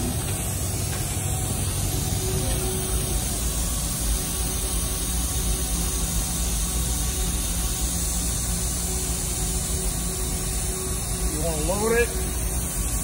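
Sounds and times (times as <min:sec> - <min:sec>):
faint machinery hum: 0:00.0 - 0:13.0
shop machinery hiss and rumble: 0:00.0 - 0:13.0.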